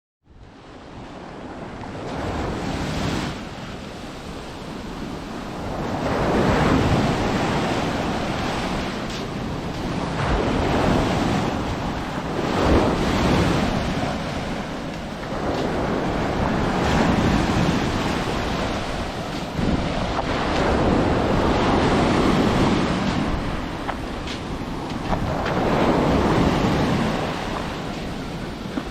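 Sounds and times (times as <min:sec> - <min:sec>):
wind buffeting microphone: 0:00.4 - 0:28.9
surf washing onto beach: 0:01.0 - 0:28.9.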